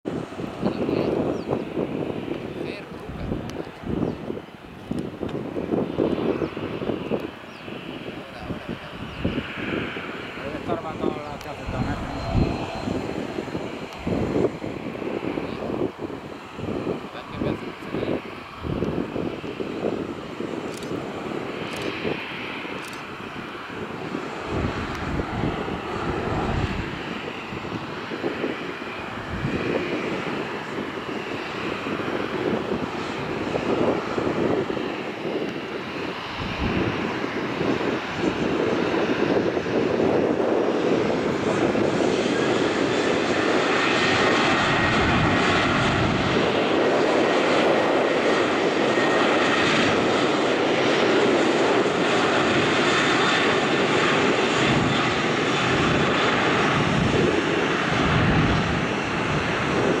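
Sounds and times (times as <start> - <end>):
jet engines at takeoff thrust: 0.0 - 60.0
faint high engine whine: 0.2 - 60.0.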